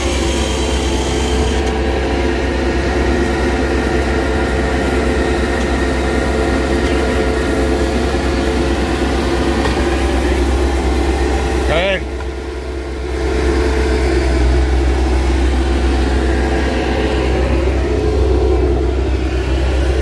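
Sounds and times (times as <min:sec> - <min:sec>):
diesel engine running loudly: 0:00.0 - 0:20.0.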